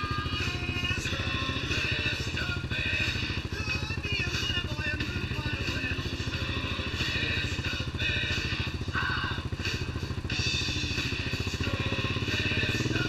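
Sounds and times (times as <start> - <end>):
atv engines idling: 0.0 - 13.0.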